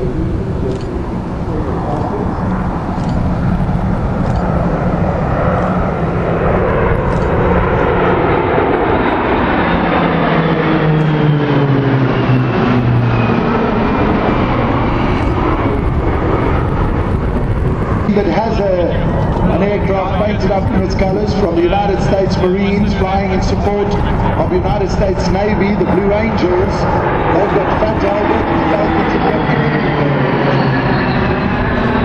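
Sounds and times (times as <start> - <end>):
aircraft engine drone overhead: 0.0 - 32.0.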